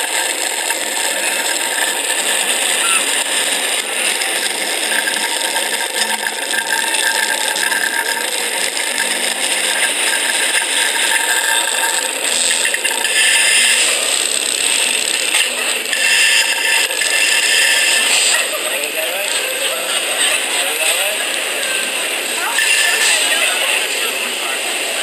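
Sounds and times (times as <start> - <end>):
roller coaster rattling on phone speaker: 0.0 - 25.0.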